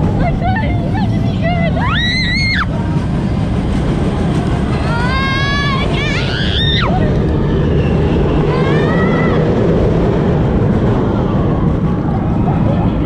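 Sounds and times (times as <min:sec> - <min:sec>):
roller coaster rumble: 0:00.0 - 0:13.0.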